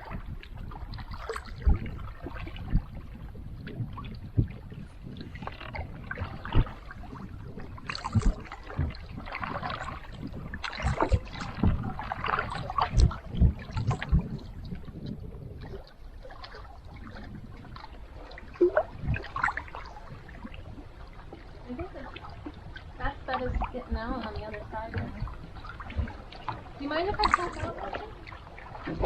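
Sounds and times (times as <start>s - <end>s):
paddle splashing in water: 0.0s - 29.0s.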